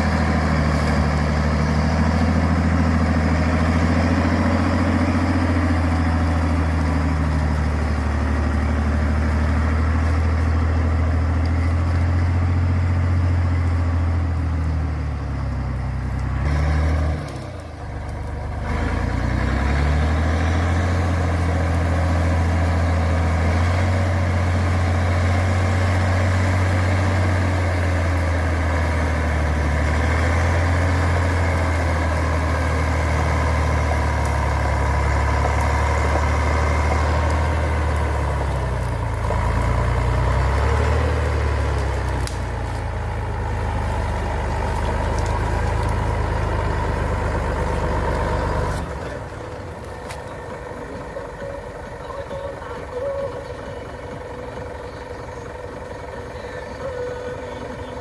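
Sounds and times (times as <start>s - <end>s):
heavy truck engine running: 0.0s - 58.0s.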